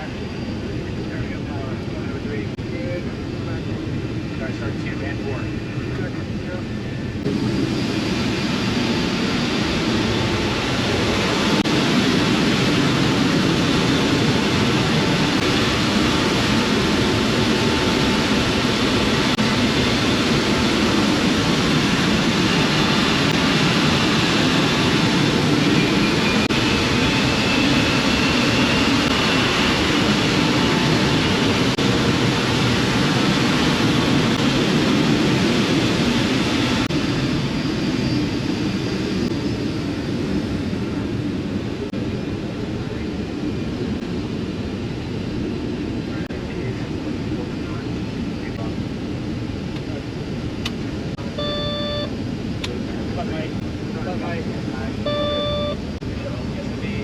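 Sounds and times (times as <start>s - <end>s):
faint high engine whine: 0.0s - 57.0s
jet engines roaring: 0.0s - 57.0s.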